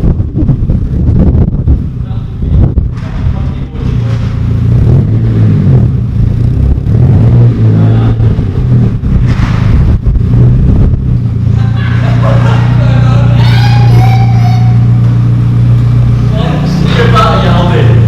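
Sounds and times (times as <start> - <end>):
car engine running while driving: 0.0 - 18.0.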